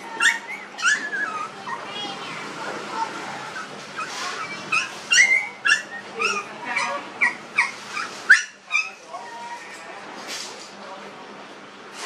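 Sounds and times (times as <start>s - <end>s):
puppies whimpering and yipping: 0.0s - 9.9s.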